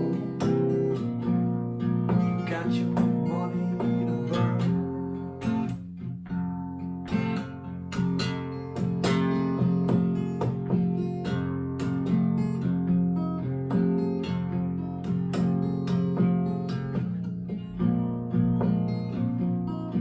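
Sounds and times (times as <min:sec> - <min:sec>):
acoustic guitar blues: 0:00.0 - 0:20.0.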